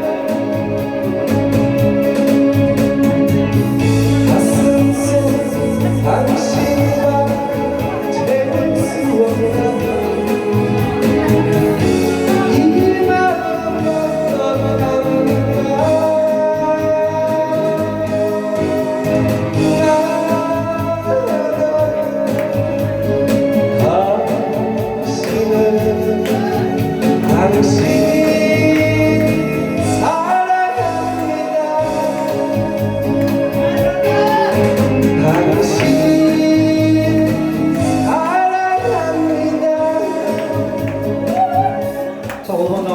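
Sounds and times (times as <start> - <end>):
instrumental backing track with beat: 0.0 - 42.9
person singing: 0.0 - 42.9.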